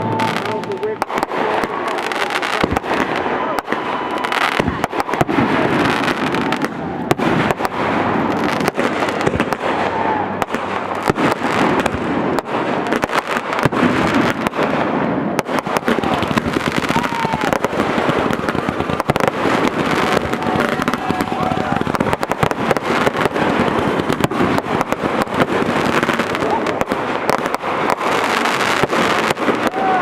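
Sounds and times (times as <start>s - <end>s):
continuous rumble: 0.0s - 30.0s
fireworks bangs and crackles: 0.0s - 30.0s.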